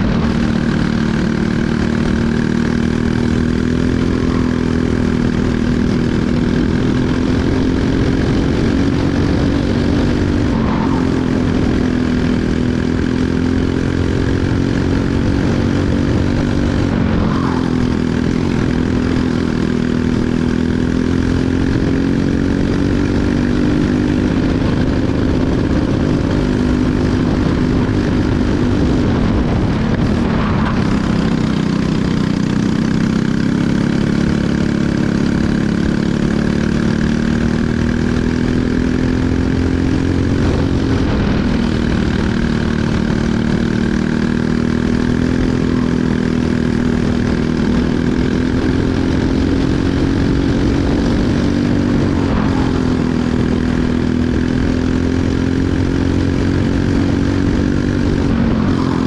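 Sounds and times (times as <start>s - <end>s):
kart engine running under load: 0.0s - 59.0s.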